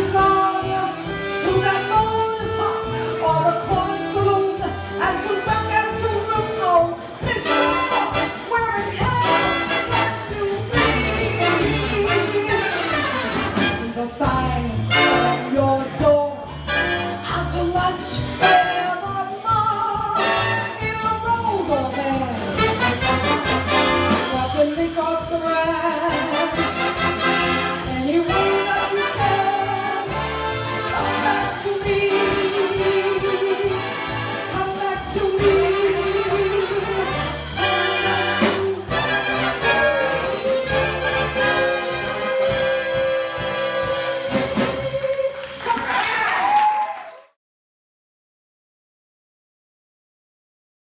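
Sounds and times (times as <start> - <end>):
orchestral jazz with brass: 0.0 - 46.1.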